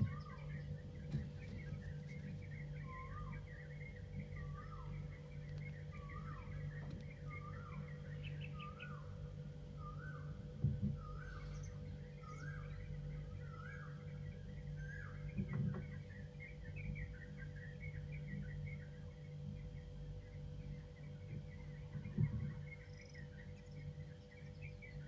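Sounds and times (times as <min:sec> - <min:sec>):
bird chirping: 0:00.0 - 0:25.0
steady low hum: 0:00.0 - 0:25.0.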